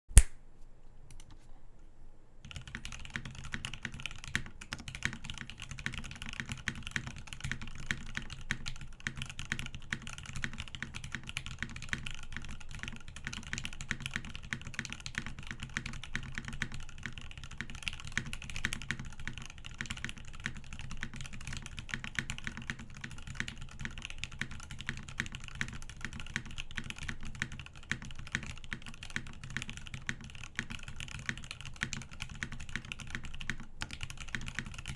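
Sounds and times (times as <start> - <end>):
fast typing on mechanical keyboard: 2.4 - 34.9.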